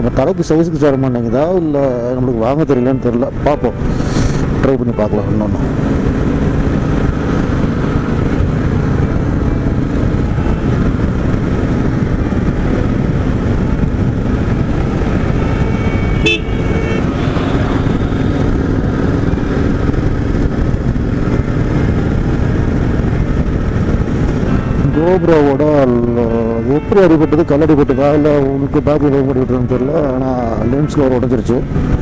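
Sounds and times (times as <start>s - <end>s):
motorcycle engine running: 3.6s - 32.0s.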